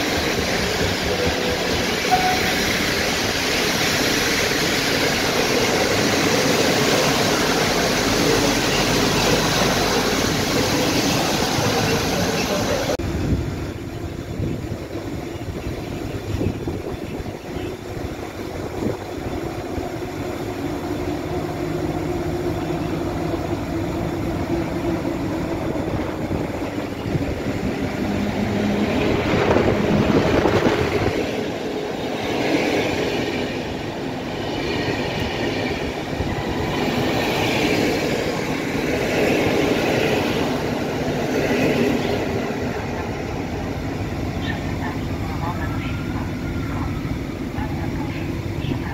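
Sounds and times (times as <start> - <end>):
electric locomotive passing: 0.0 - 48.9.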